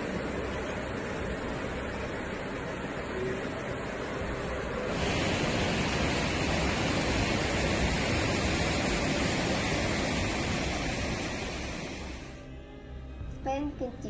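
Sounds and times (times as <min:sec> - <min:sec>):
floodwater rushing along street: 0:00.0 - 0:12.4.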